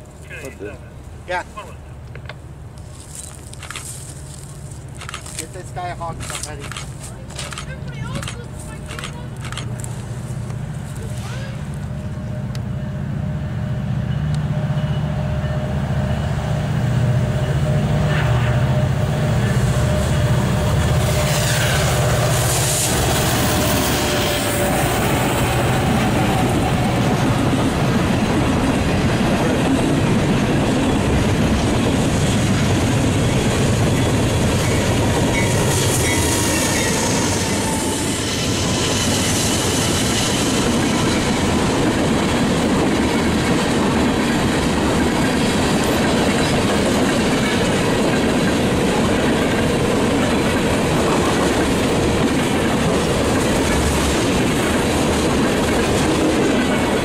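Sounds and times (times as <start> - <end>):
diesel locomotive engines droning: 0.0 - 57.0
train wheels clattering on rails: 2.1 - 11.9, 17.4 - 57.0.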